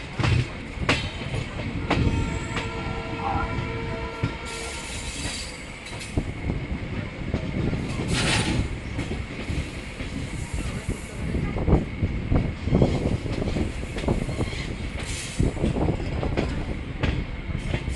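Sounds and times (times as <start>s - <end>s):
train rumble: 0.0s - 17.9s.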